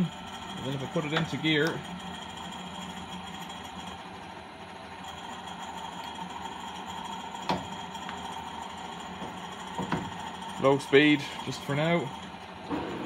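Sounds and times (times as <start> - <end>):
lathe motor humming with whine: 0.0 - 13.0.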